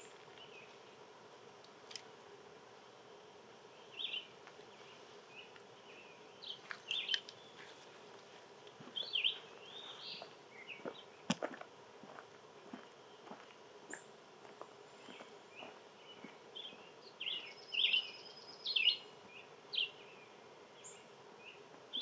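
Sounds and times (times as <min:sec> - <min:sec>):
small birds chirping: 0:00.0 - 0:02.2, 0:03.4 - 0:22.0
faint steady drone: 0:00.0 - 0:22.0.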